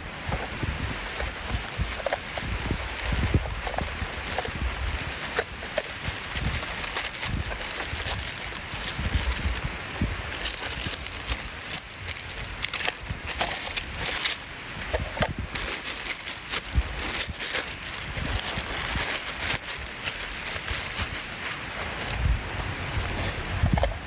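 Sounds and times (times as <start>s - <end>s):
rustling and scuffing: 0.0s - 24.0s
wind on microphone: 0.0s - 24.0s.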